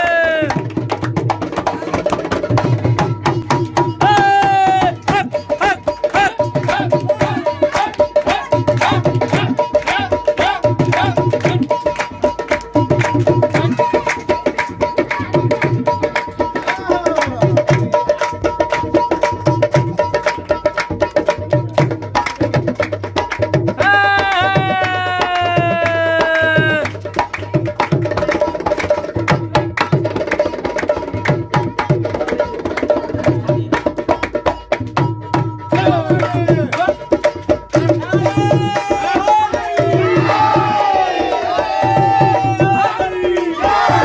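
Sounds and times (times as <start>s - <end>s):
dholak drumming fast rhythm: 0.0s - 44.0s.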